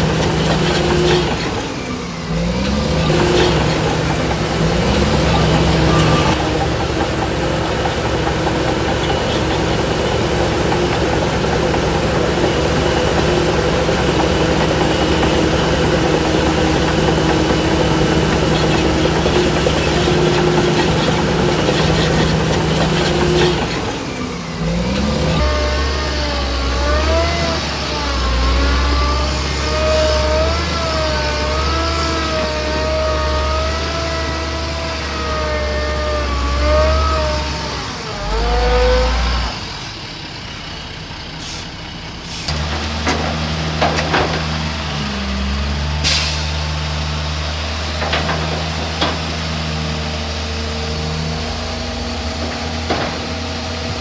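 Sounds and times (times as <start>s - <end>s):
deep drone: 0.0s - 54.0s
diesel earthmoving machinery: 0.0s - 54.0s.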